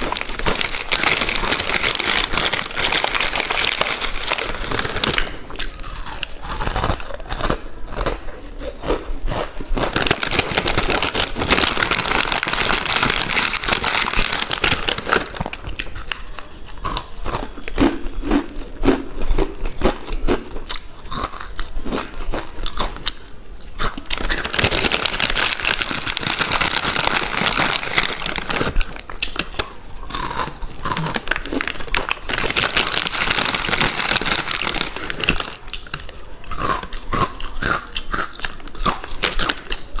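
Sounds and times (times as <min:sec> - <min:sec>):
chips crunching and chewing: 0:00.0 - 0:40.0
plastic snack packets crinkling: 0:00.0 - 0:40.0.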